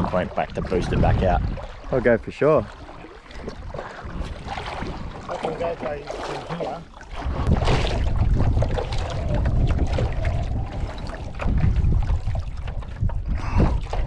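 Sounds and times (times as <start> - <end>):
wind buffeting microphone: 0.0 - 6.3, 7.1 - 14.0
water splashes and drips: 0.0 - 14.0.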